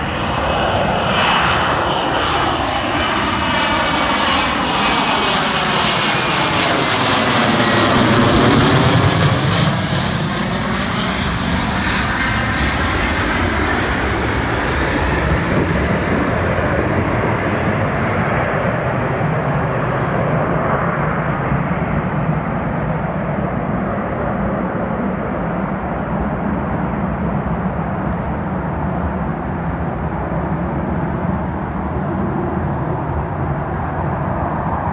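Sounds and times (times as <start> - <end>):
jet engine passing: 0.0 - 34.9.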